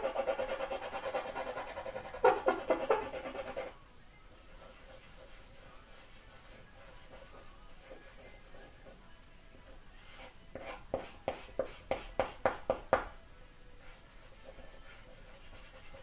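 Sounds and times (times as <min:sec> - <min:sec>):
drawing stick scratching on paper: 0:00.0 - 0:03.7, 0:04.4 - 0:09.0, 0:10.0 - 0:12.4, 0:13.8 - 0:16.0.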